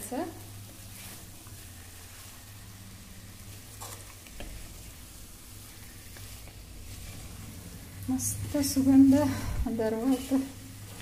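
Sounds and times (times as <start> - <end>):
low steady hum: 0.0 - 11.0
meat sizzling in a pot: 0.0 - 11.0
wooden spatula scraping: 0.2 - 11.0.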